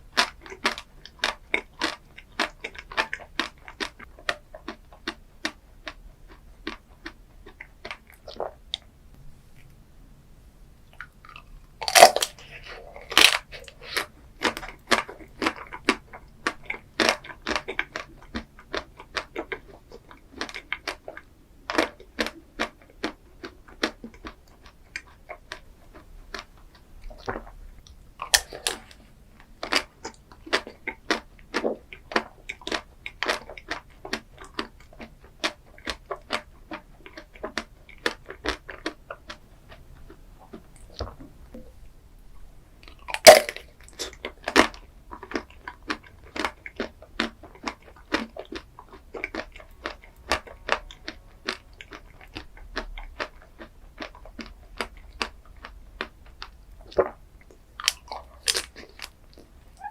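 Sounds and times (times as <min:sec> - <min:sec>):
crunchy chewing: 0:00.1 - 0:08.9, 0:10.9 - 0:41.7, 0:42.8 - 0:59.9.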